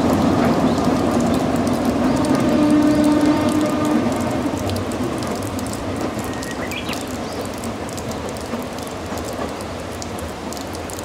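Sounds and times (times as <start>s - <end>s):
train running: 0.0s - 10.9s
rain hiss and patter: 0.0s - 11.0s.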